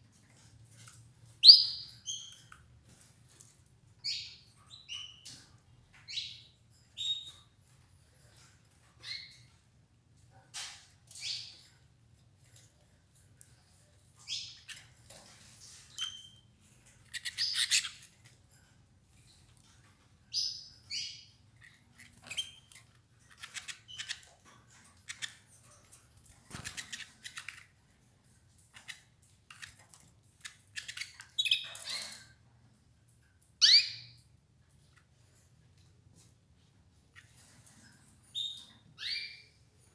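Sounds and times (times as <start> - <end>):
birds pecking clicks and rustles: 0.0 - 20.3, 21.4 - 33.6
canaries chirping: 0.1 - 39.9.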